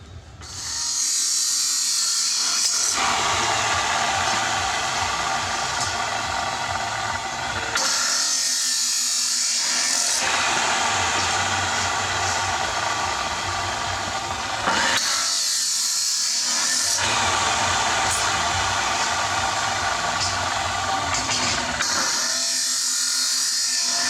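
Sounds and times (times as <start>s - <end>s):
electric power tool motor running: 0.4s - 24.0s.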